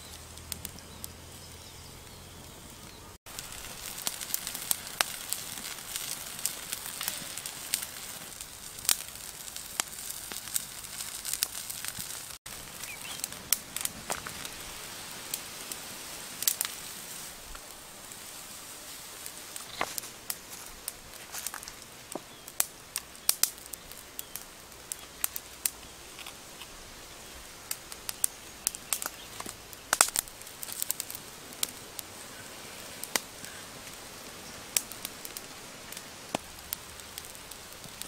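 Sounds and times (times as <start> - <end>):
fire crackling and popping: 0.0 - 38.0
fire hiss: 0.0 - 38.0.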